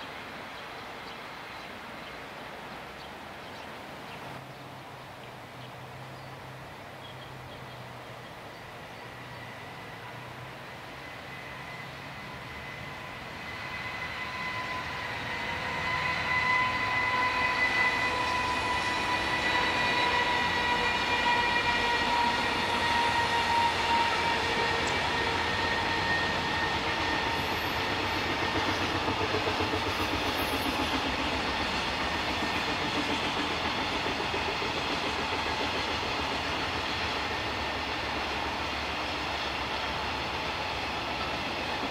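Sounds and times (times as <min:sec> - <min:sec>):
electric locomotive whine: 0:05.9 - 0:41.9.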